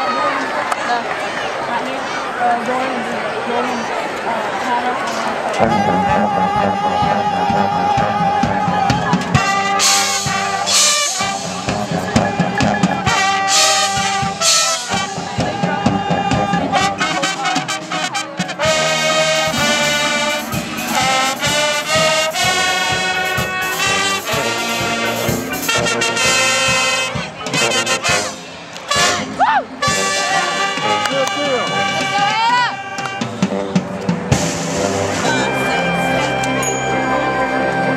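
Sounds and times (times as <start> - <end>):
marching band playing: 4.6 - 37.9.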